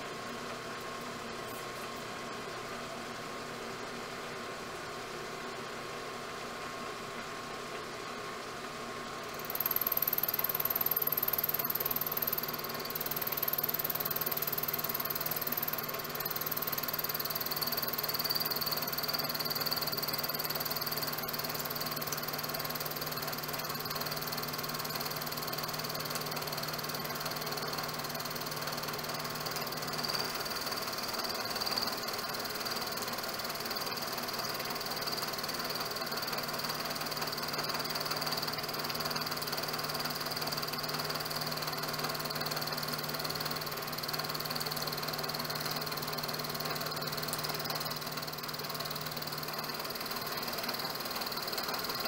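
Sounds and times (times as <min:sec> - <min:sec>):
milling machine motor hum: 0:09.3 - 0:52.0.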